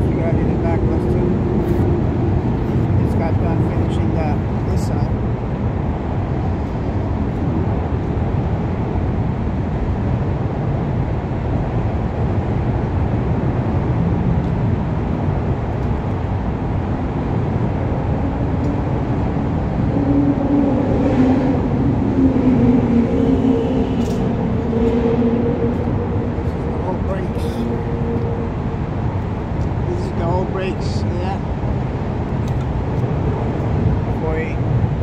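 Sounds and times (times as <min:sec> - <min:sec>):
city traffic rumble: 0:00.0 - 0:35.0
steady hum: 0:00.0 - 0:35.0.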